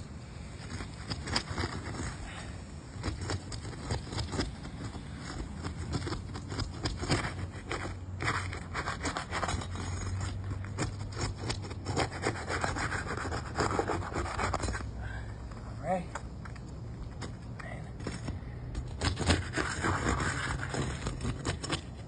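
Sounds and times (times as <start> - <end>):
tool scraping under shingles: 0.0 - 15.6, 16.2 - 22.0.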